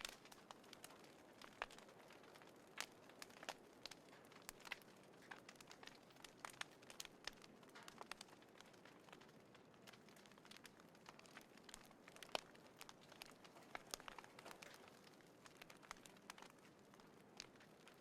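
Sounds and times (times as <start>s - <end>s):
faint steady hiss: 0.0s - 18.0s
wood fire crackling: 0.0s - 18.0s.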